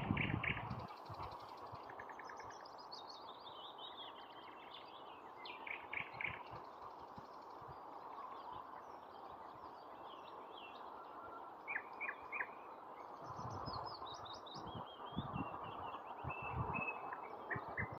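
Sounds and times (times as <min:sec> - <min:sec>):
nightingale singing: 0:00.0 - 0:18.0.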